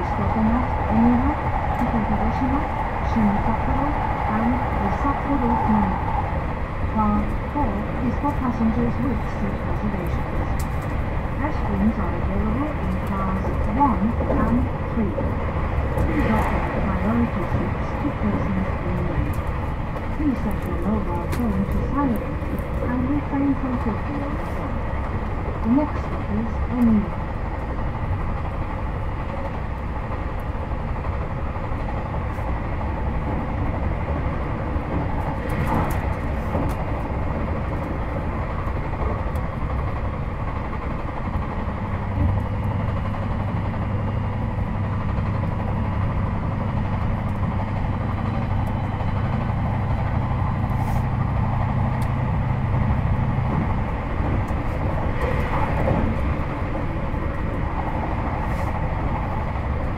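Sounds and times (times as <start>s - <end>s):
train wheel and rail noise: 0.0s - 59.9s.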